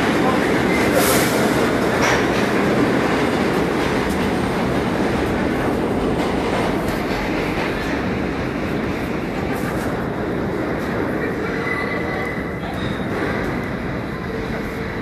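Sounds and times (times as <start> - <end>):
subway train rumbling on tracks: 0.0 - 15.0.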